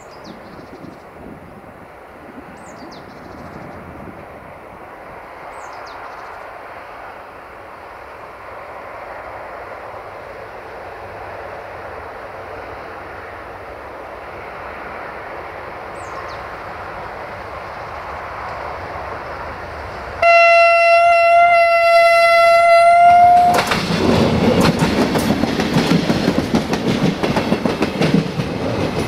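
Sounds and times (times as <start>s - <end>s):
train engine and wheels: 0.0s - 29.0s.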